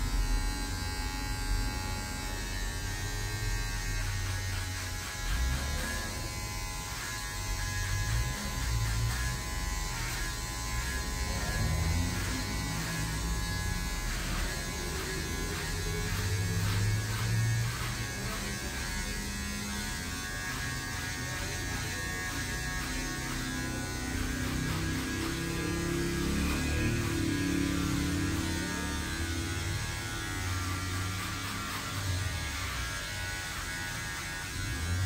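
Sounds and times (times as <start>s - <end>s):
electric hair clippers buzzing: 0.0s - 35.0s.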